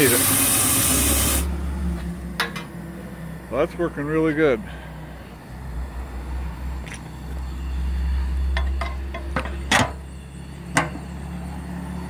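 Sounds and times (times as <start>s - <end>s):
wood fire roaring in firebox: 0.0s - 12.0s.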